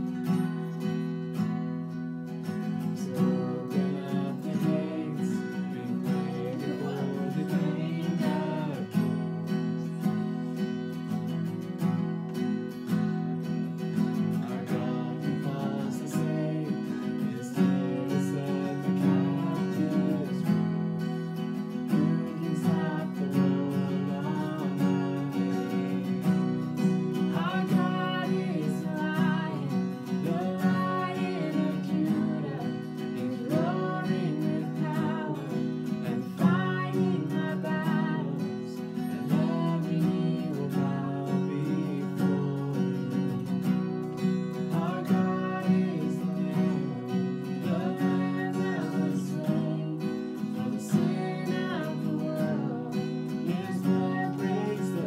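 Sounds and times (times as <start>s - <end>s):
acoustic guitars strummed: 0.0s - 55.0s
voices singing: 2.5s - 10.3s, 14.0s - 43.4s, 44.6s - 55.0s.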